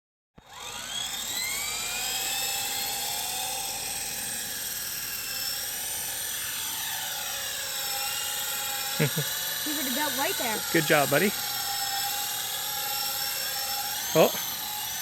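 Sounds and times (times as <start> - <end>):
toy helicopter rotors whining: 0.4 - 15.0.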